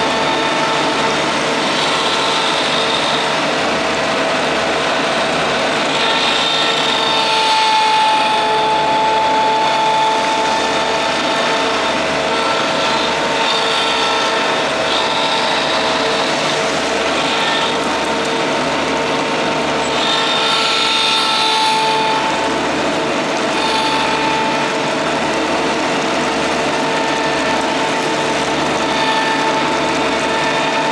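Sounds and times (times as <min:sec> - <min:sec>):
steady mechanical whine: 0:00.0 - 0:30.9.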